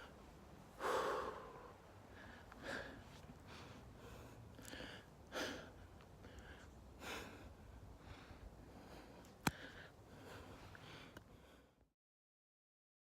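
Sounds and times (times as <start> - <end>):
person breathing hard: 0.8 - 11.9.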